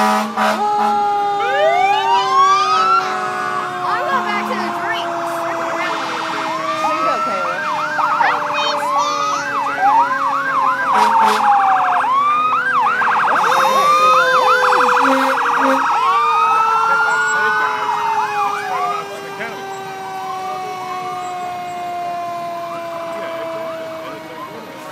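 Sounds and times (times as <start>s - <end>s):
low falling siren tone: 0.0s - 24.9s
sirens wailing and yelping: 0.0s - 24.9s.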